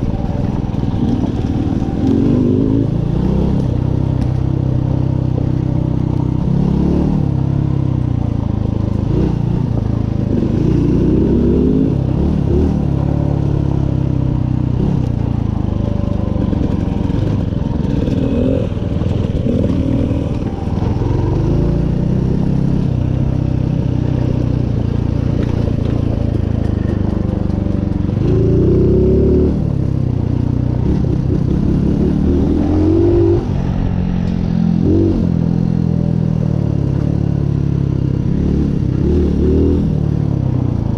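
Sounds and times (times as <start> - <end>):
motorcycle engine revving: 0.0 - 40.9
motorcycle rattling on rough ground: 0.0 - 40.9.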